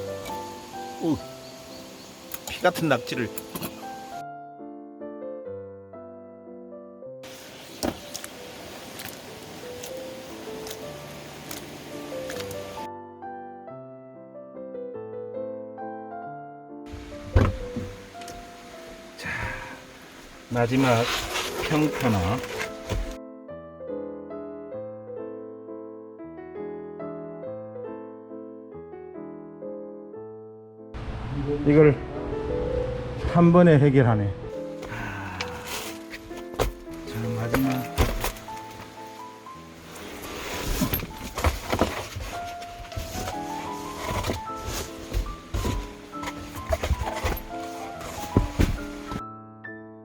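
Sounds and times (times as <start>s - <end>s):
solo piano melody: 0.0s - 20.8s, 22.0s - 50.0s.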